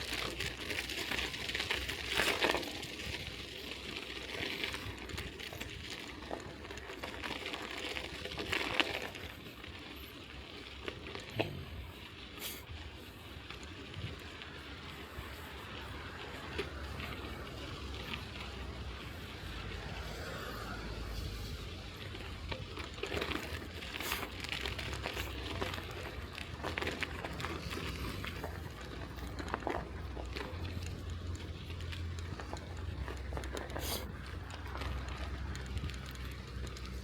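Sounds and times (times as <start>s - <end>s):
bicycle tyres rolling over snow: 0.0s - 37.0s.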